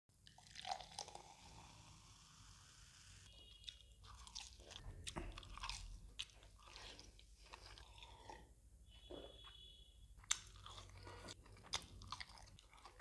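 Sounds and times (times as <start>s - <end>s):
person chewing: 0.2s - 1.6s, 3.3s - 13.0s.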